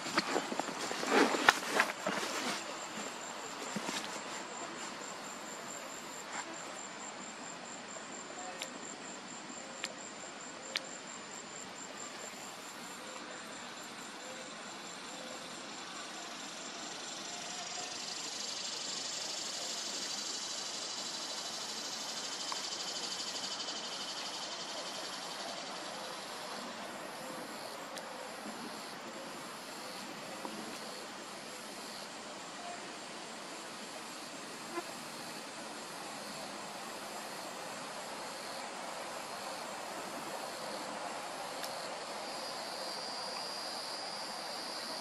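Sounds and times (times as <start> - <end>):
insects trilling: 0.0 - 45.0
low background hiss: 1.6 - 45.0.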